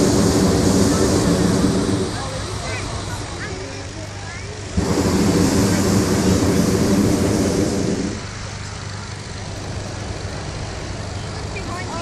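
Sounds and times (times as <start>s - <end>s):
propane burner firing: 0.0s - 12.0s.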